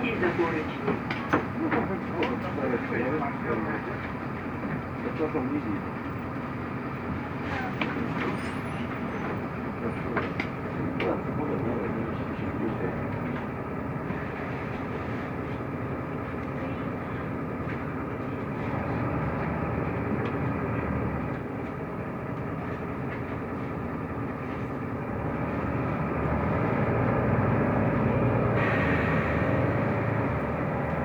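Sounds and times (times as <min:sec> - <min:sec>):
bus engine rumble: 0:00.0 - 0:31.0
road noise: 0:00.0 - 0:31.0.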